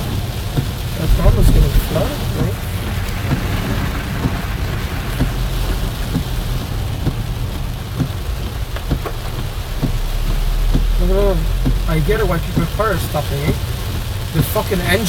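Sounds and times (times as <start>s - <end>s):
heavy rain on a car: 0.0s - 15.0s
steady low rumble: 0.0s - 15.0s.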